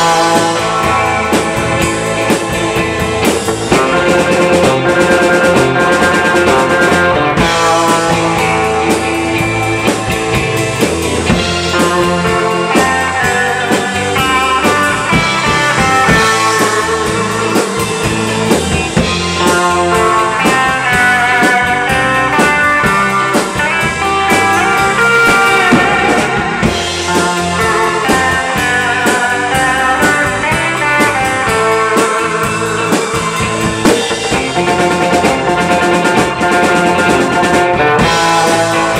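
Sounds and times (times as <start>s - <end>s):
drum kit: 0.0s - 38.9s
electric guitar lead lines: 0.0s - 38.9s.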